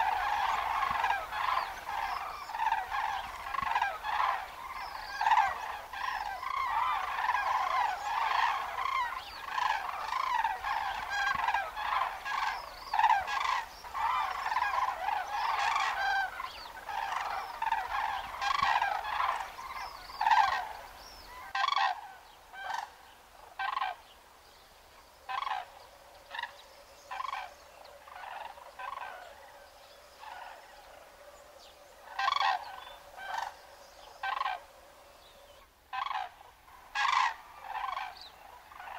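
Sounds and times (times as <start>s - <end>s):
cranes calling: 0.0s - 24.0s, 25.2s - 38.9s.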